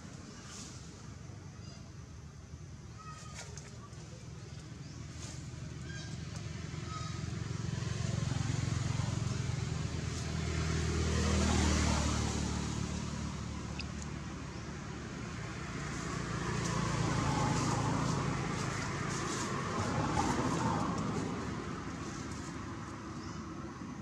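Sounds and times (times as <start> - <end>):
vehicle engine running: 3.8 - 24.0.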